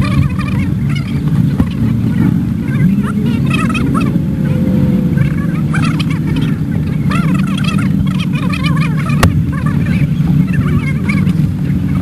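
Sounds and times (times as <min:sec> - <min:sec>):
high-pitched voices chattering: 0:00.0 - 0:12.0
low machine drone: 0:00.0 - 0:12.0
rising whine: 0:00.0 - 0:12.0.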